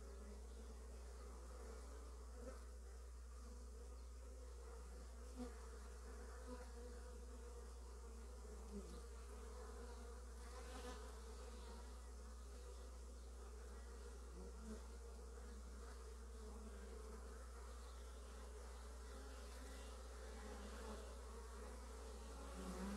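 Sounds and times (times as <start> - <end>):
bees humming at hive: 0.0 - 22.9
single bee buzzing past: 0.0 - 22.9.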